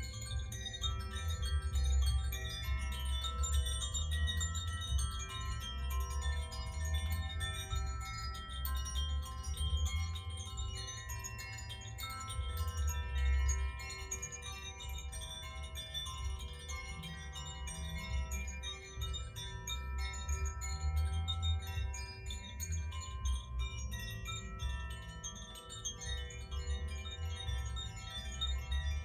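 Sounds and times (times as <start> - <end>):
wind chimes ringing: 0.0 - 29.0.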